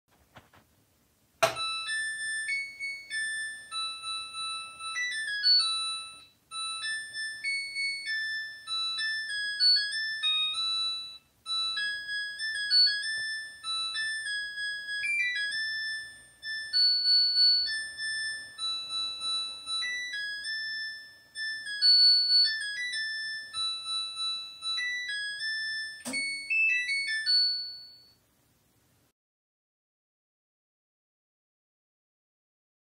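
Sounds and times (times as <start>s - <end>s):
washing machine beeping melody: 1.4s - 28.2s.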